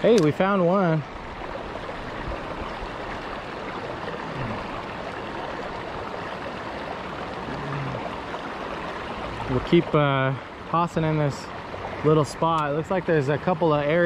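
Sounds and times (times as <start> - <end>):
water flowing over stones: 0.0 - 14.0.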